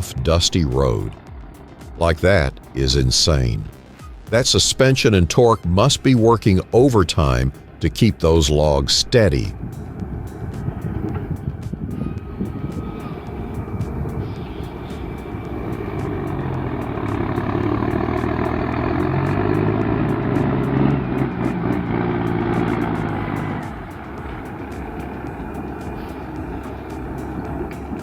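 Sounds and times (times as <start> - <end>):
truck engine pulling under load: 0.0 - 28.0.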